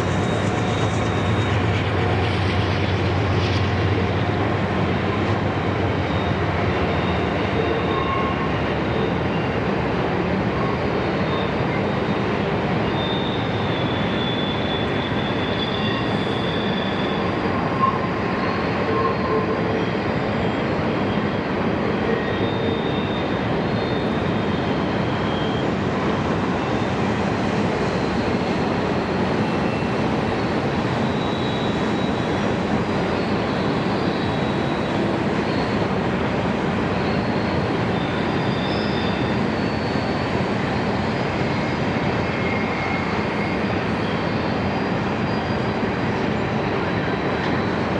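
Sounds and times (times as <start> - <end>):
high wheel squeals: 0.0 - 3.0, 5.0 - 9.8, 10.7 - 36.0, 36.8 - 47.9
train wheels rumbling on rail: 0.0 - 47.9.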